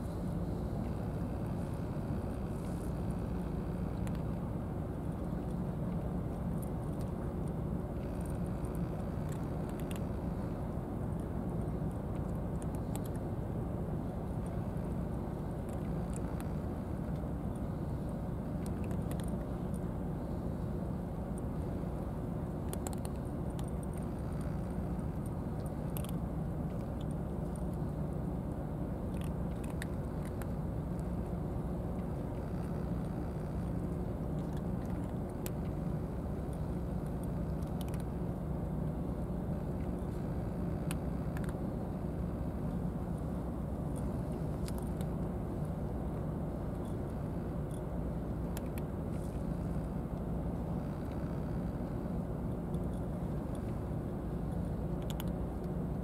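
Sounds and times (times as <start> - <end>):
steady low rumble: 0.0 - 56.0
cats crunching dry kibble: 0.9 - 56.0.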